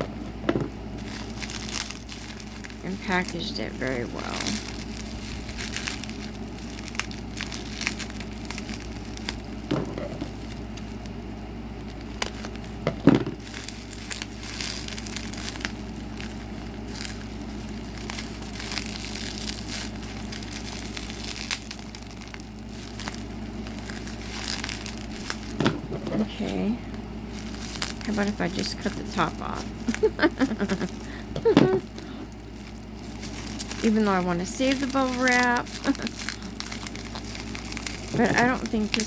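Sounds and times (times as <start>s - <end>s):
bubble wrap and tape crinkling: 0.0s - 39.0s.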